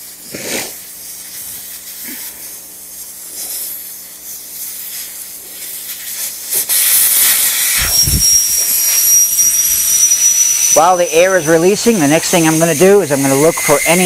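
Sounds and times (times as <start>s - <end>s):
air hissing out of tyre: 0.0s - 14.0s.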